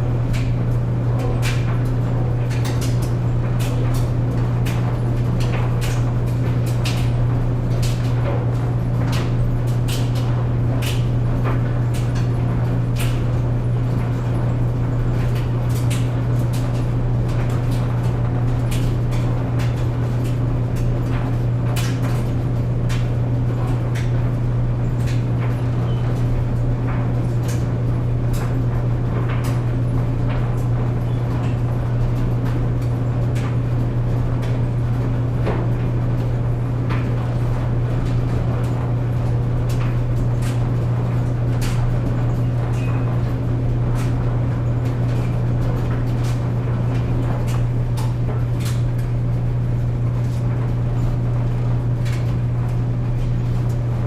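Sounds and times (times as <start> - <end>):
clothes dryer humming: 0.0 - 54.0.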